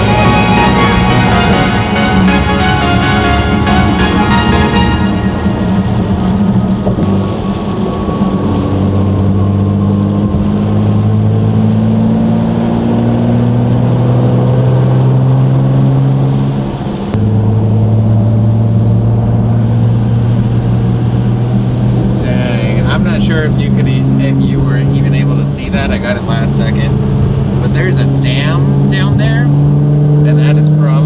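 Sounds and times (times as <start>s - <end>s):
car engine drone from inside: 0.0s - 31.0s.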